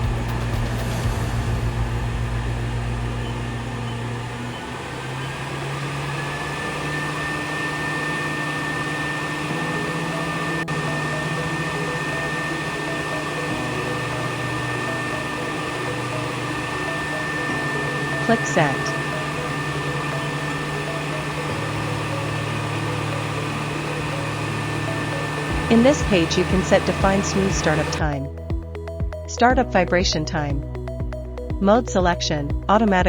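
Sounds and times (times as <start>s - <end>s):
suction motor whining: 0.0s - 28.1s.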